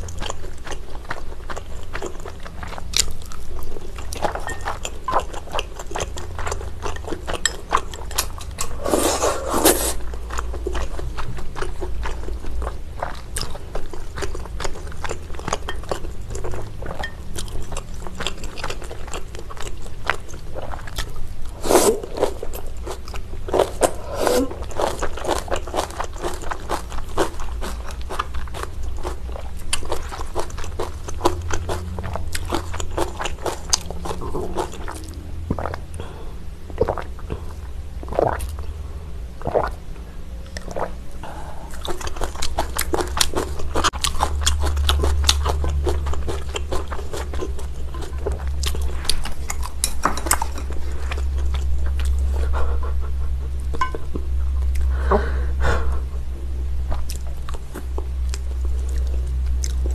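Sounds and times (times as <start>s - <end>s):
chewing with mouth clicks: 0.0s - 38.8s, 40.4s - 54.9s, 56.8s - 59.9s
steady low hum: 0.0s - 59.9s.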